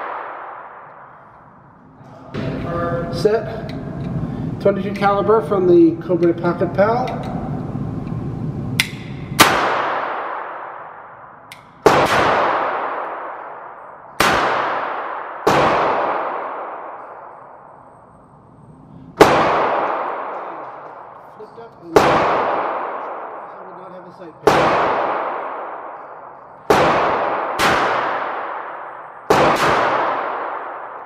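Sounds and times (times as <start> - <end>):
gunshots echoing indoors: 0.0 - 5.3, 7.2 - 31.0.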